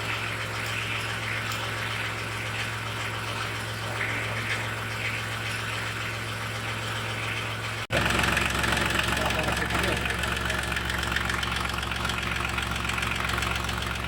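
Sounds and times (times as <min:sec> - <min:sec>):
air compressor humming and hissing: 0:00.0 - 0:14.0.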